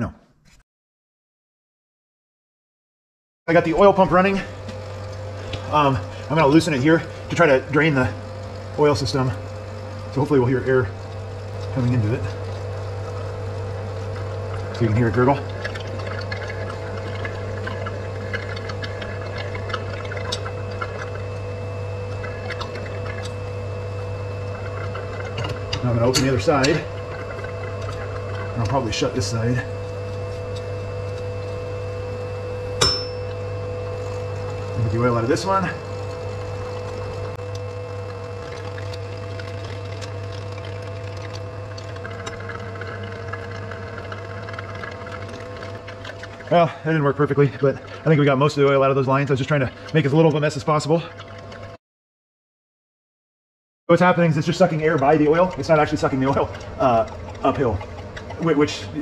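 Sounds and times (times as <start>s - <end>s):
electric pump humming: 3.5s - 51.8s, 53.9s - 59.0s
oil and air gurgling: 3.5s - 51.8s, 53.9s - 59.0s.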